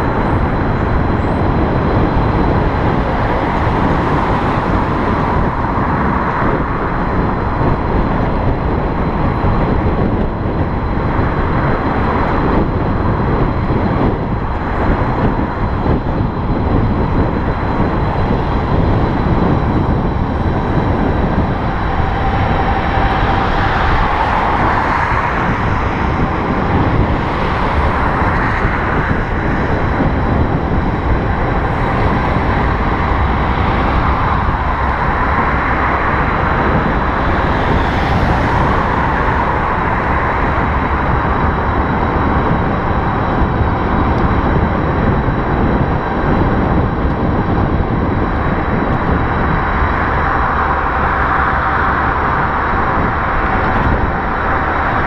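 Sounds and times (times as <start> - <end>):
road noise: 0.0 - 55.0
wind rushing on microphone: 0.0 - 55.0.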